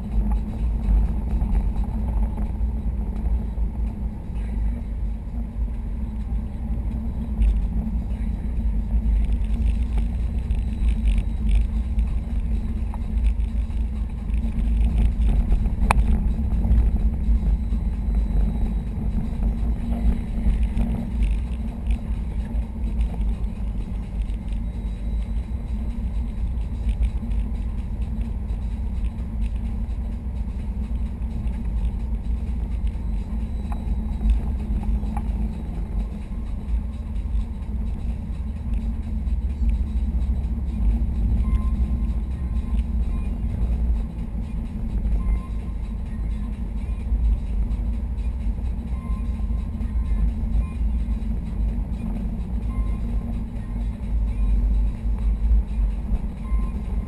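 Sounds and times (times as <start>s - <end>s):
road and engine drone in car: 0.0s - 57.0s.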